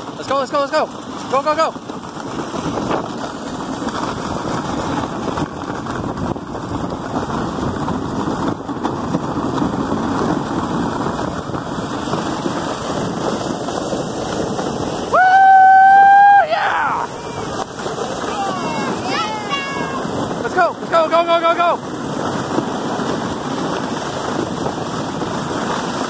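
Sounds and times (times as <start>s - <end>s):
sled runners hissing over snow: 0.0s - 26.0s
wind on microphone: 1.3s - 26.0s.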